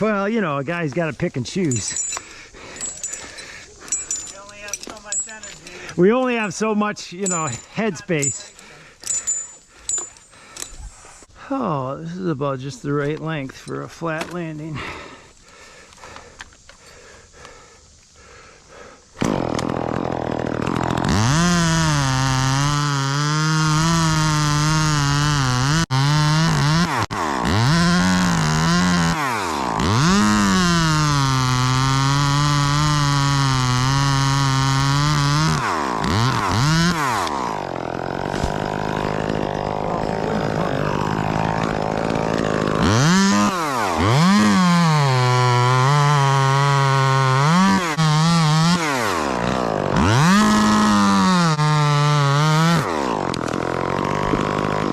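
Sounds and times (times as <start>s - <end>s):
chainsaw cutting wood: 0.9s - 10.9s, 19.2s - 54.9s.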